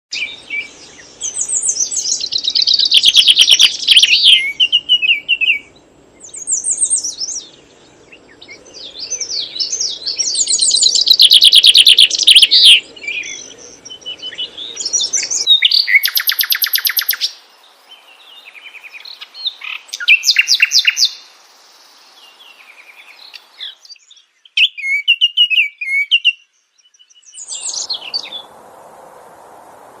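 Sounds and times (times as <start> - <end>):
songbirds chirping and trilling: 0.1 - 30.0.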